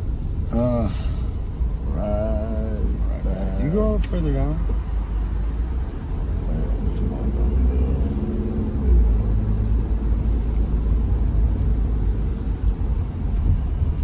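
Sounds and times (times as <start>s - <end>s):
car interior road noise: 0.0s - 14.0s.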